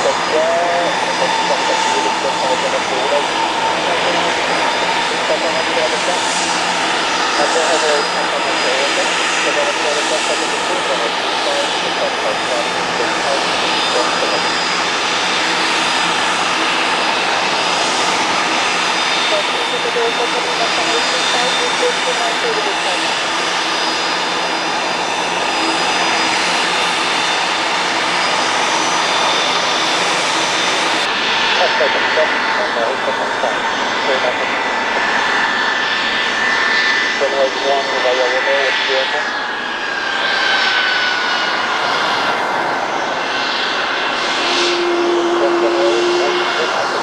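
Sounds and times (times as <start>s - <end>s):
high fan whine: 0.0s - 47.0s
jet engines running: 0.0s - 47.0s.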